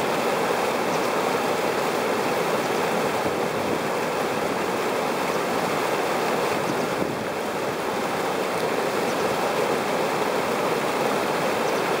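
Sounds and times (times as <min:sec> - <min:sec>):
water rushing over weir: 0:00.0 - 0:12.0.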